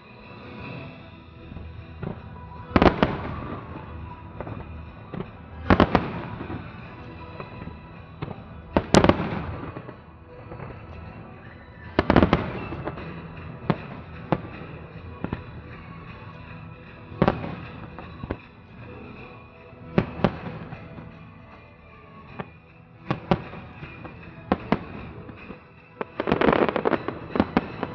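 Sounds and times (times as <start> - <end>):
fireworks bursting: 0.0 - 27.9.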